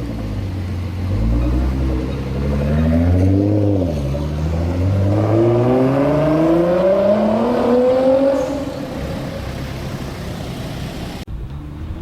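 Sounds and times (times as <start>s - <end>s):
car engine accelerating: 0.0s - 11.3s.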